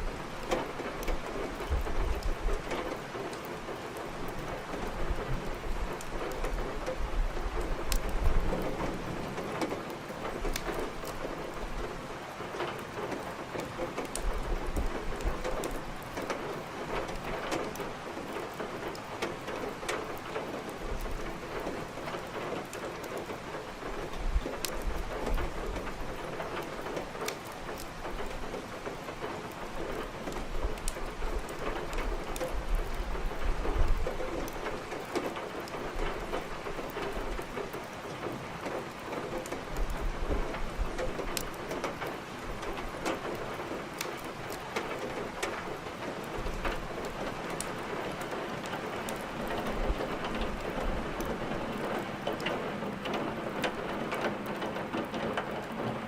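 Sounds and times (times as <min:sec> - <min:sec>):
heavy rain: 0:00.0 - 0:56.0
wood fire crackling: 0:00.0 - 0:56.0.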